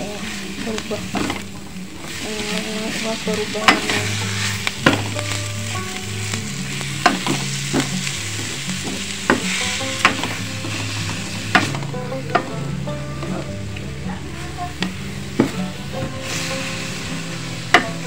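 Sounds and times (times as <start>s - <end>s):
meat and vegetables sizzling in wok: 0.0s - 18.0s
wooden spatula scraping and knocking pan: 0.0s - 18.0s.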